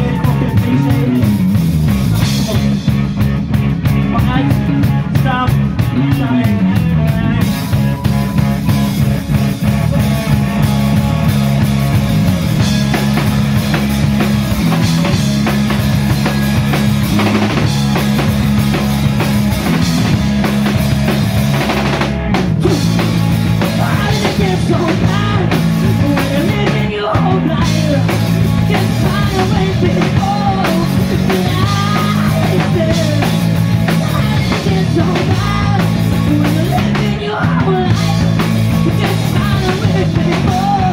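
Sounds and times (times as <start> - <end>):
bass line: 0.0 - 40.9
drum kit beat: 0.0 - 40.9
live rock band playing: 0.0 - 40.9.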